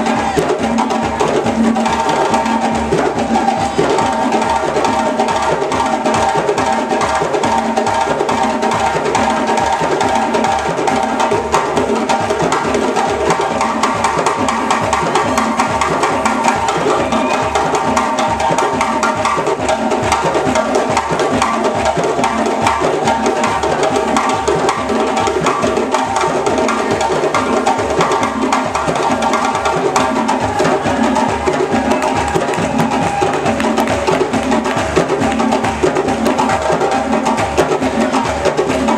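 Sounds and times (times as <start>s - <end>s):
drum ensemble playing: 0.0s - 38.9s.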